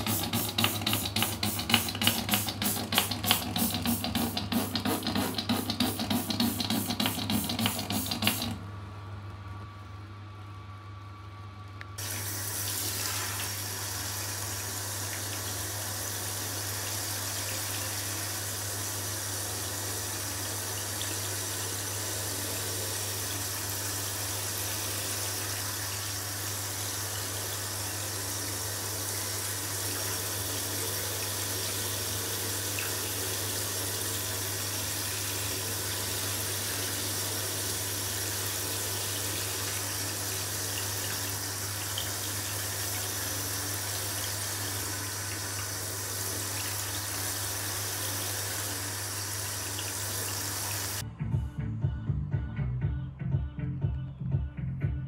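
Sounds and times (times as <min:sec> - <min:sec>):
shower head spraying water: 0:00.0 - 0:08.6, 0:12.0 - 0:51.0.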